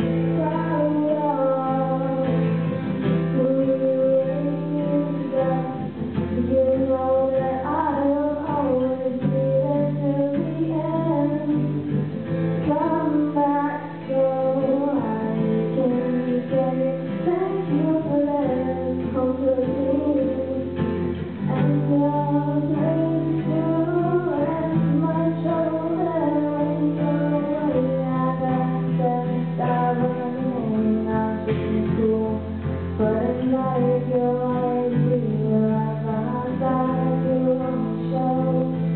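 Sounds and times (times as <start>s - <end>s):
acoustic guitars playing: 0.0s - 38.9s
girl singing: 0.0s - 38.9s.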